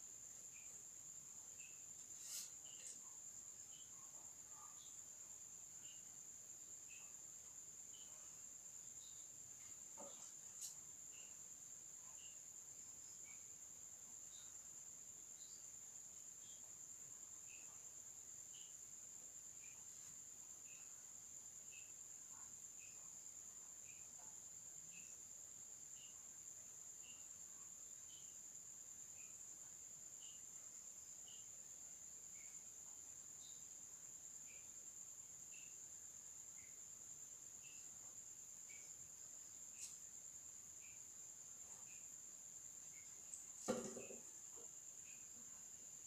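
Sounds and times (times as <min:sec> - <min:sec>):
insect chirp: 0:00.0 - 0:46.0
insect high-pitched trill: 0:00.0 - 0:46.0.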